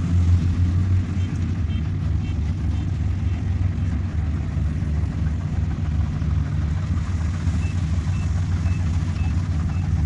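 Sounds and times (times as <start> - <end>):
combine harvester engine droning: 0.0 - 10.0.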